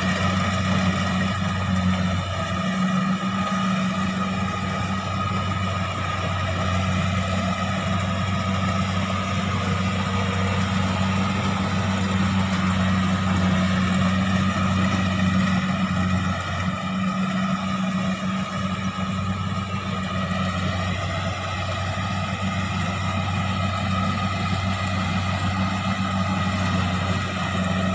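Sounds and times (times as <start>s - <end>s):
diesel engine running steadily: 0.0s - 27.9s.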